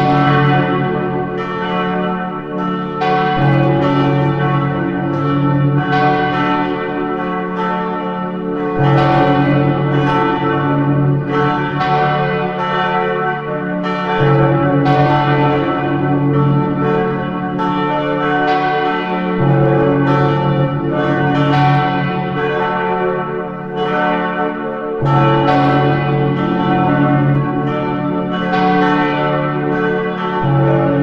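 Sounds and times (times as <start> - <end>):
church bells ringing: 0.0 - 31.0
deeper bell: 0.0 - 31.0.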